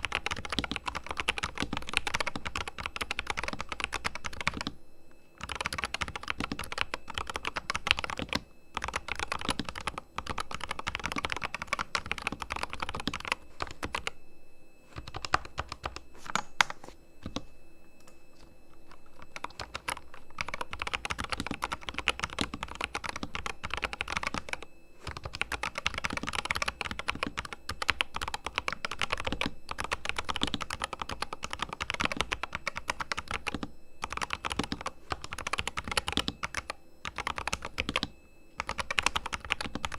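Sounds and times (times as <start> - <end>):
fast typing on mechanical keyboard: 0.0 - 4.7, 5.4 - 14.1, 15.0 - 17.4, 19.0 - 39.9.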